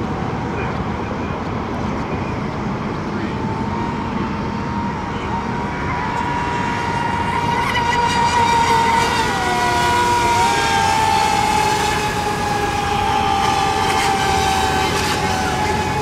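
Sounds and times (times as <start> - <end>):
racing model boats whining: 1.6 - 16.0.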